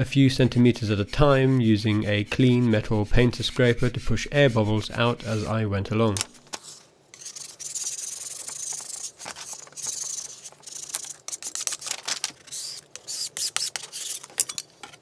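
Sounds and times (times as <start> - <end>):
metal scraper rubbing on paper: 0.3 - 5.6, 6.6 - 14.3.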